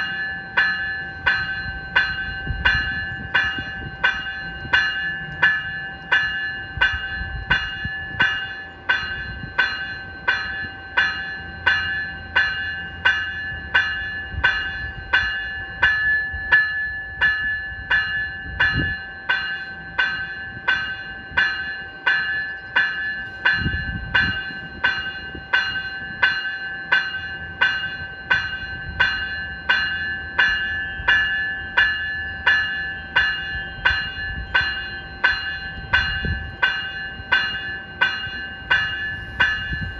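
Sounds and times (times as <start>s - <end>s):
electronic bell ringing: 0.0s - 39.9s.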